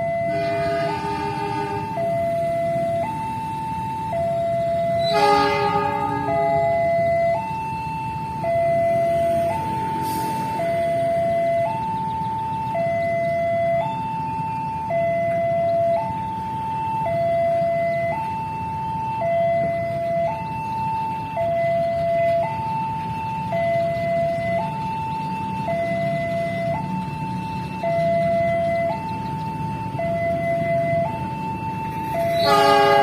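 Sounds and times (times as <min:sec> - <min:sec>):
two-tone crossing warning alarm: 0:00.0 - 0:33.0.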